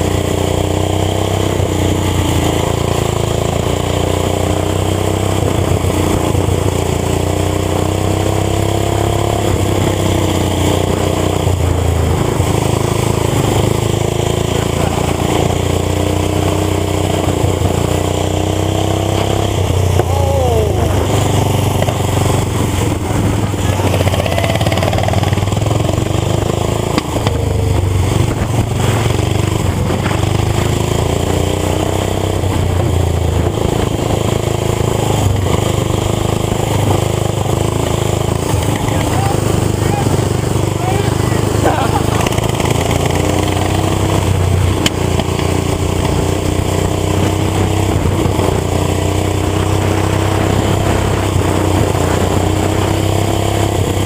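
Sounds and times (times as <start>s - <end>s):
lawn tractor engine revving: 0.0s - 54.0s.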